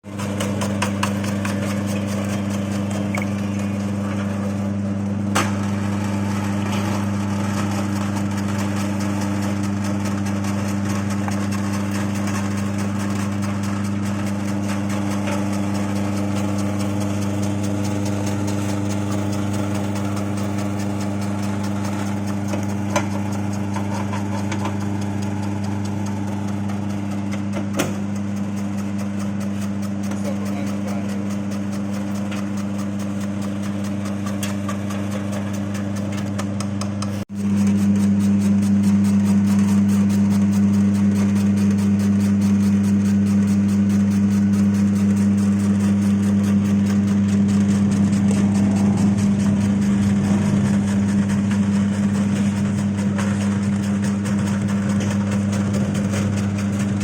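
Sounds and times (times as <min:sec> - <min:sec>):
slicing machine humming and clattering: 0:00.0 - 0:57.0.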